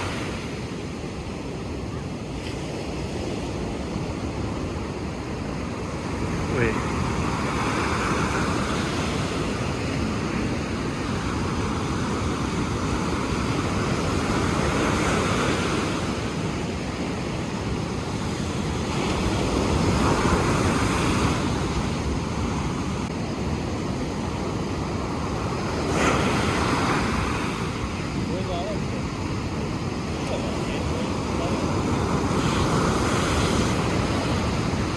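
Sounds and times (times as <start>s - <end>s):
ocean surf washing ashore: 0.0s - 34.9s.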